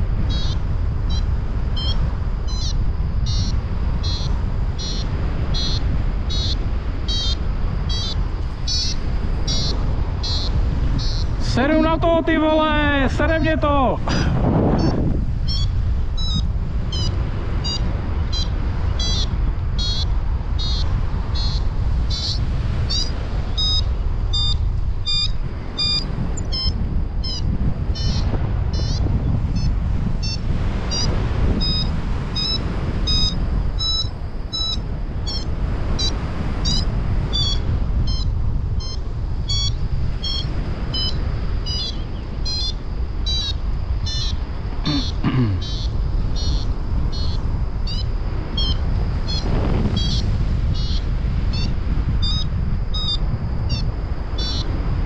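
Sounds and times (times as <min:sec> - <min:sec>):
wind rush on microphone: 0:00.0 - 0:55.0
variometer beeping: 0:00.1 - 0:11.9, 0:14.7 - 0:44.4, 0:45.1 - 0:54.7.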